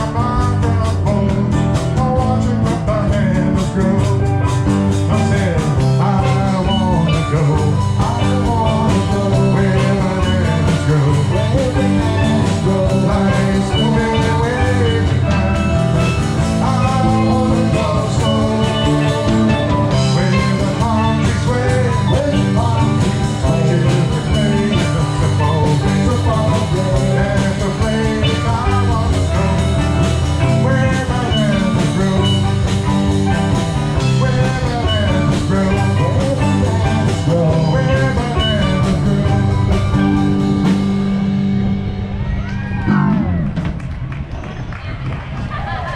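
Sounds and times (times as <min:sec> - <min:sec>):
steel drums melody: 0:00.0 - 0:42.1
live band instrumental: 0:00.0 - 0:44.8.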